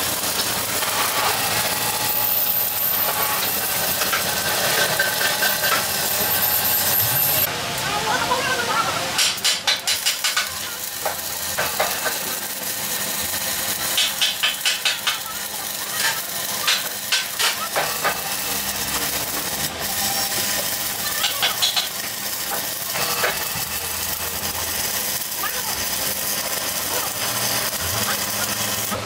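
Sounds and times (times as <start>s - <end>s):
welding arc sizzling: 0.0s - 29.0s.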